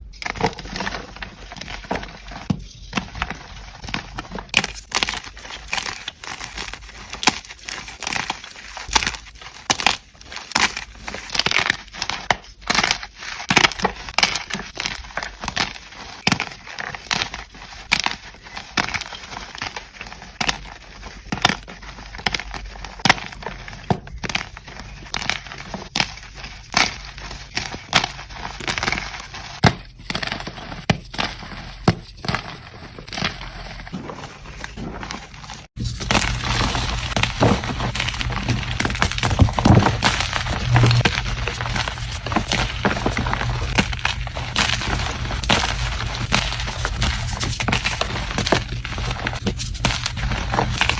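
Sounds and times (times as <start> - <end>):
chalk blocks crunching: 0.2 - 50.9.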